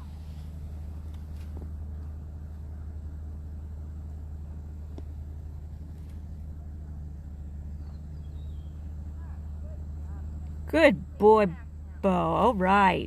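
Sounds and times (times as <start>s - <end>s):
car engine hum from inside: 0.0s - 13.0s.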